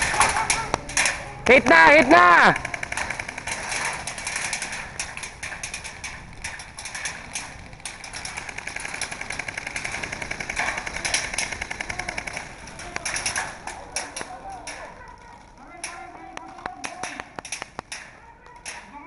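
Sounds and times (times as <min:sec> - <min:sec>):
airsoft guns firing: 0:00.0 - 0:19.0.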